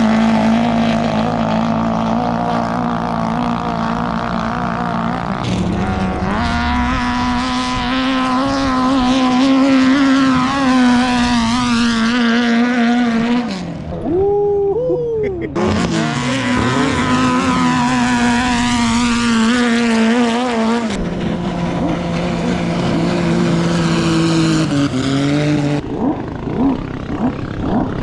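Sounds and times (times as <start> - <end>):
boat engine revving: 0.0 - 28.0.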